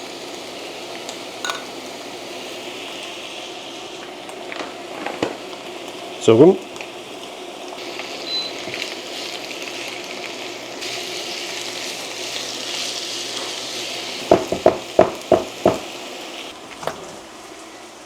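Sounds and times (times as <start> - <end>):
mushrooms sizzling in a pan: 0.0 - 18.0.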